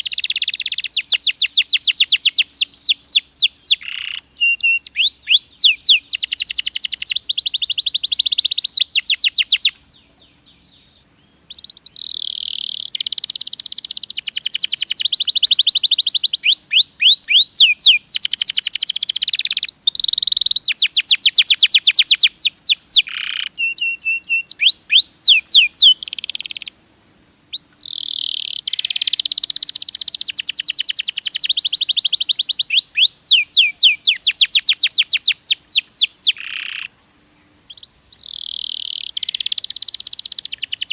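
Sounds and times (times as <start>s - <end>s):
canary singing trills: 0.0s - 26.8s, 27.5s - 37.0s, 37.7s - 40.9s.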